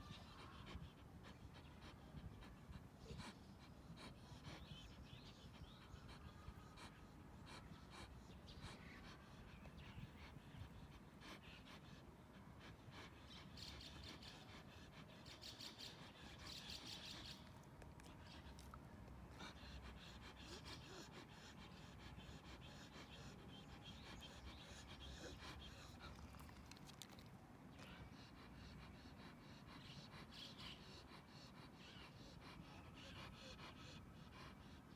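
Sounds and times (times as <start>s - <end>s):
dog panting: 0.0s - 34.9s.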